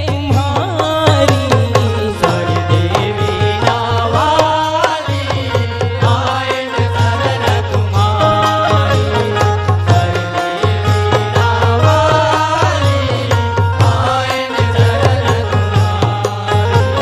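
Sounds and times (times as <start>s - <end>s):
devotional melody with sliding ornaments: 0.4s - 17.0s.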